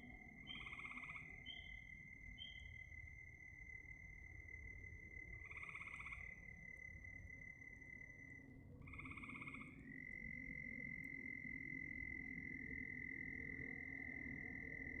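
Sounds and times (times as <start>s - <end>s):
frogs croaking: 0.0s - 15.0s.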